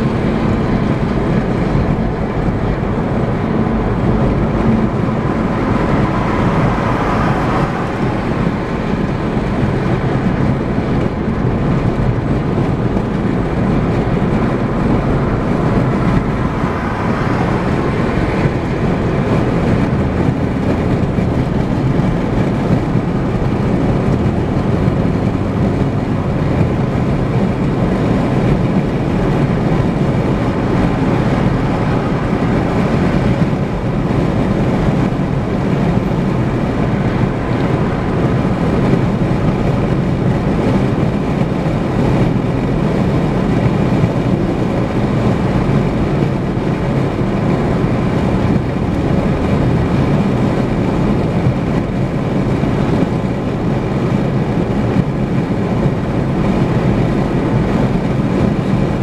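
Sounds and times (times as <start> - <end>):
car road noise from inside: 0.0 - 59.0.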